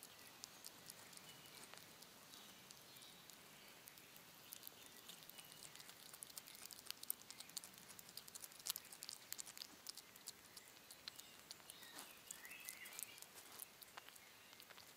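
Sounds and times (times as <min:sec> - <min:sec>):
hedgehog chewing: 0:00.0 - 0:14.9.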